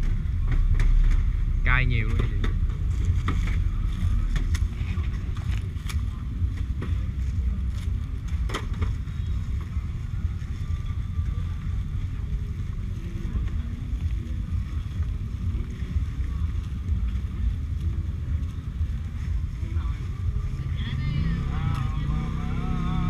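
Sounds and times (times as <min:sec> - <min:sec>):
motorbike traffic rumble: 0:00.0 - 0:23.0.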